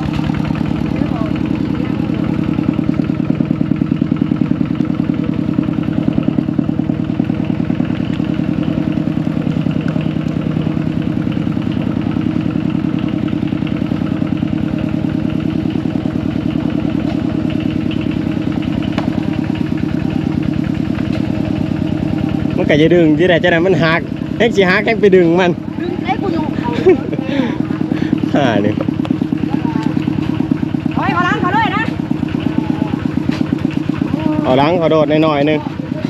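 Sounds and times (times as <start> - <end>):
small engine running steadily: 0.0 - 36.0.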